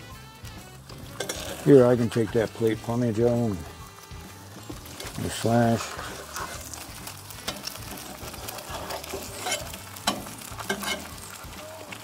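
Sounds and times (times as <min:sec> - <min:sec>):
eggs sizzling in a pan: 0:00.0 - 0:12.0
metal spatula scraping a pan: 0:00.8 - 0:12.0.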